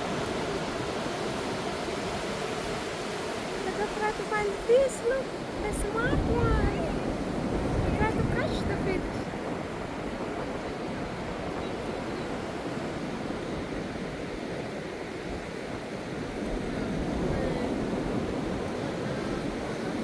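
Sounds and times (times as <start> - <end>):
ocean surf on sandy beach: 0.0 - 20.0.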